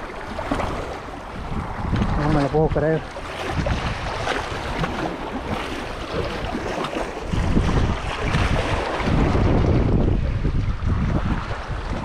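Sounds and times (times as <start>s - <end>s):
small waves splashing on rocks: 0.0s - 9.8s
wind buffeting microphone: 0.0s - 12.0s.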